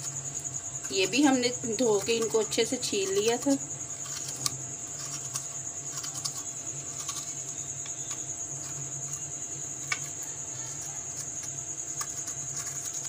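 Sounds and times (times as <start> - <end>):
spoon scraping seeds from gourd: 0.0 - 13.0
steady high-pitched whine: 0.0 - 13.0.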